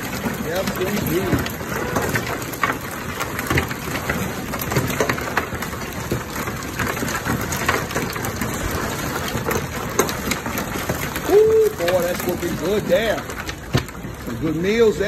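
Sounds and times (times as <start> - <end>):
crabs clattering on table: 0.0 - 15.0.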